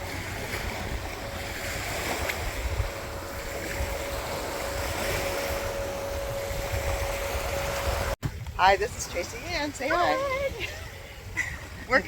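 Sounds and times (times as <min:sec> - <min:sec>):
surf washing onto a beach: 0:00.0 - 0:10.6
thin steady hum: 0:00.0 - 0:12.0
wind buffeting the microphone: 0:00.0 - 0:12.0.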